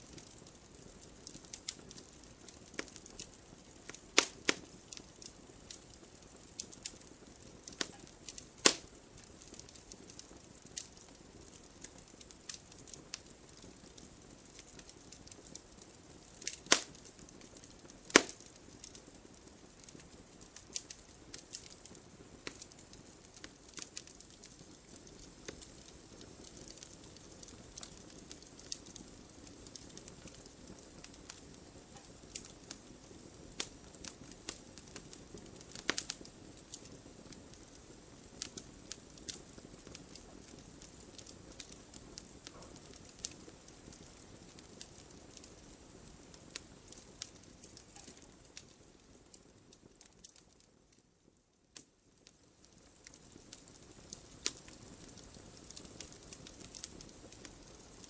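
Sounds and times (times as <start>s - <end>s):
hiss of flames: 0.0s - 50.1s
wood fire crackling: 0.0s - 58.0s.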